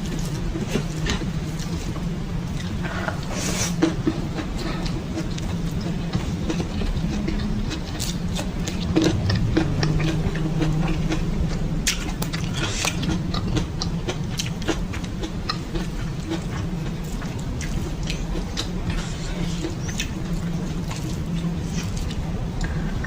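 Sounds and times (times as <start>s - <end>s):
low steady hum: 0.0s - 23.0s
person chewing: 0.0s - 23.0s.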